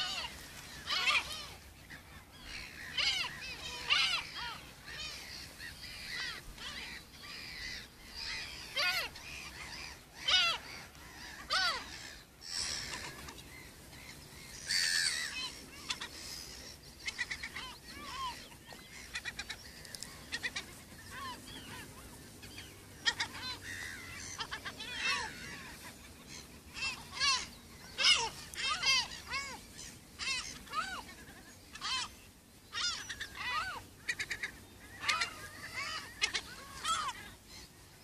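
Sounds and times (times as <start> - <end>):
gulls calling: 0.0 - 38.0.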